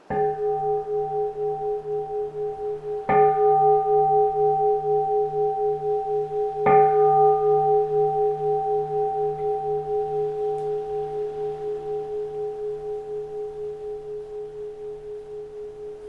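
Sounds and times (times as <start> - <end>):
bowl-shaped temple bell ringing: 0.0 - 16.0.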